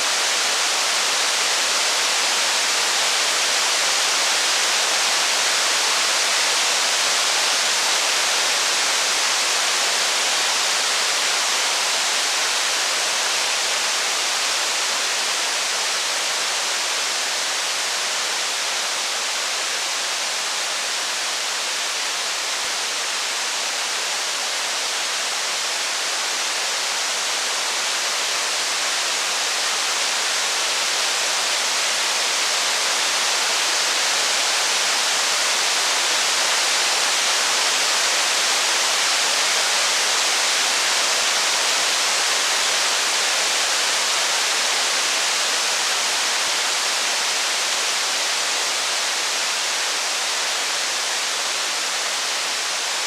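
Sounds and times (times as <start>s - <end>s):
steady rain hissing: 0.0s - 53.0s.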